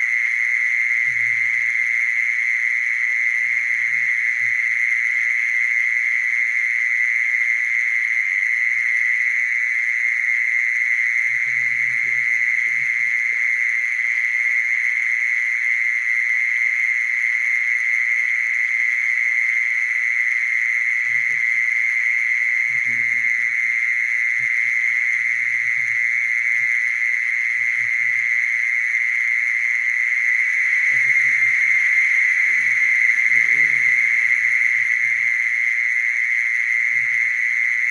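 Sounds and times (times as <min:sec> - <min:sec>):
mole cricket trilling: 0:00.0 - 0:37.9.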